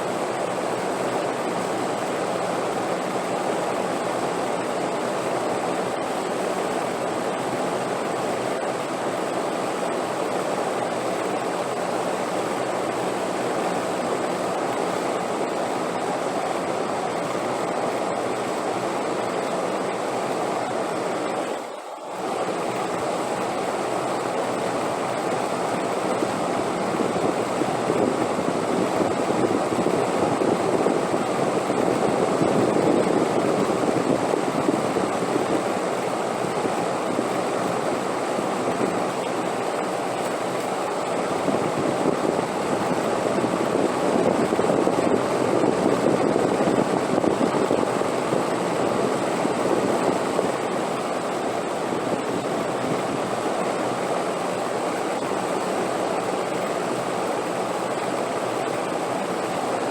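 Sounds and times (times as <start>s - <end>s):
steady wind: 0.0s - 59.9s.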